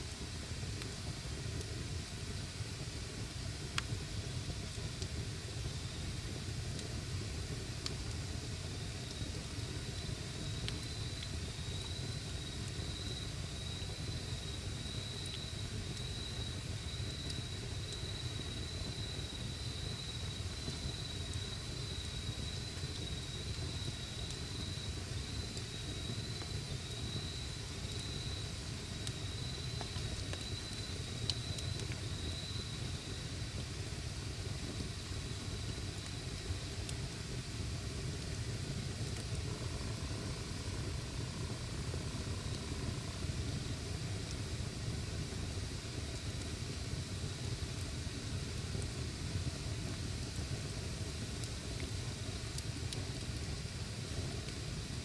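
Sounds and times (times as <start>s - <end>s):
campfire burning and crackling: 0.0s - 55.0s.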